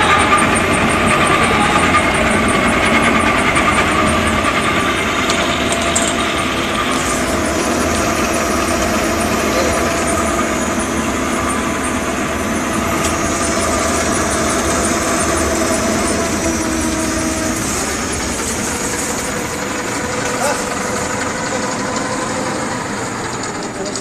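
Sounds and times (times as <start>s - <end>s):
faint steady machine whine: 0.0s - 24.0s
printing machine running: 0.0s - 24.0s.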